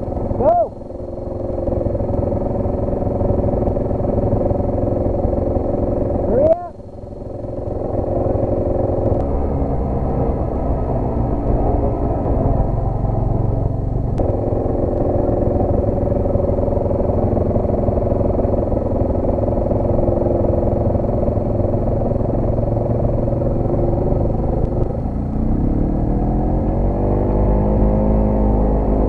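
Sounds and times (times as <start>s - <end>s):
atv engine running and revving: 0.0s - 29.0s.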